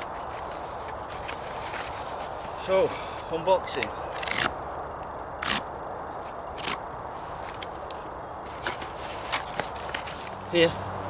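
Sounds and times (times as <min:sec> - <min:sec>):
dry rustles and crackles: 0:00.0 - 0:04.5, 0:05.2 - 0:11.0.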